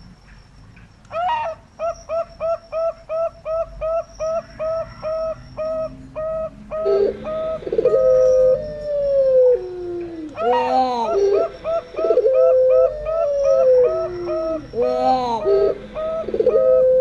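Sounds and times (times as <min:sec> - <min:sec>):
doves cooing quickly: 0:01.1 - 0:17.0
long descending dove coos: 0:01.1 - 0:17.0.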